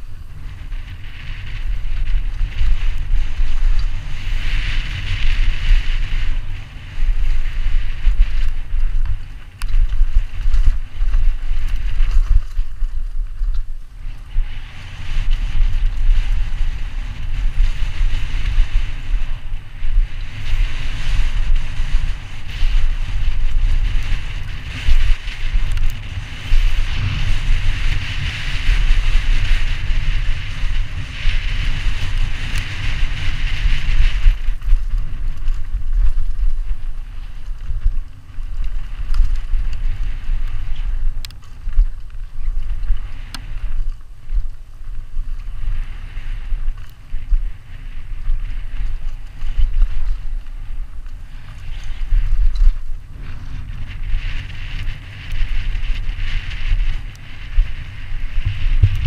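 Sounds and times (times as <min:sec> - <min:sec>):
bike rumbling over bumps: 0:00.0 - 0:59.0
wind buffeting microphone: 0:00.0 - 0:59.0.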